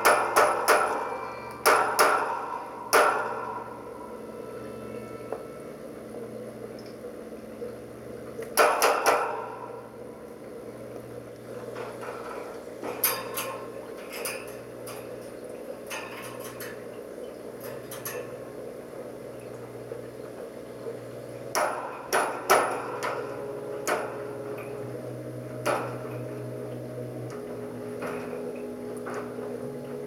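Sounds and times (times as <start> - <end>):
steady low hum: 0.0 - 8.6, 9.2 - 30.0.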